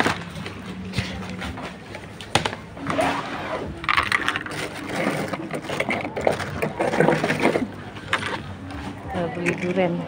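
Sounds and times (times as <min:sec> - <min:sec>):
rustling and scraping of frozen packs: 0:00.0 - 0:02.1, 0:02.8 - 0:10.0.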